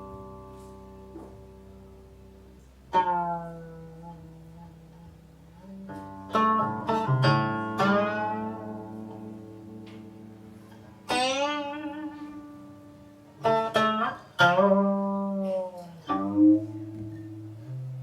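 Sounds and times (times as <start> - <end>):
plucked zither notes: 0.0 - 18.0.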